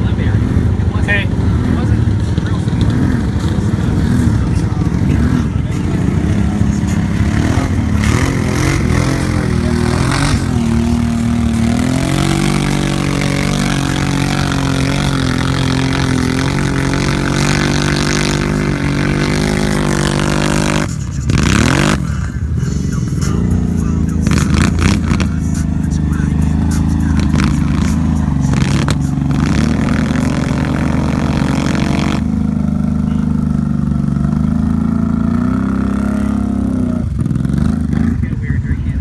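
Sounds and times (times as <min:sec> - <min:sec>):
utility vehicle engine revving: 0:00.0 - 0:39.0.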